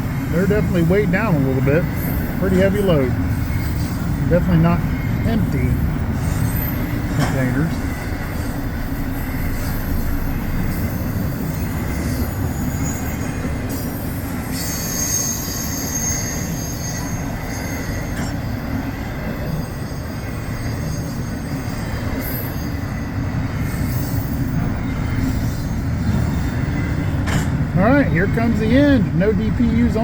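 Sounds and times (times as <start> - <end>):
high wheel squeal: 0.0 - 27.2
train wheels rumbling on rail: 0.0 - 30.0.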